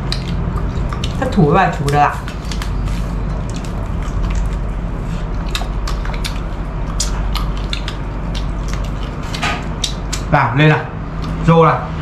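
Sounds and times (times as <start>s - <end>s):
people chewing food: 0.0s - 12.0s
steady low hum: 0.0s - 12.0s.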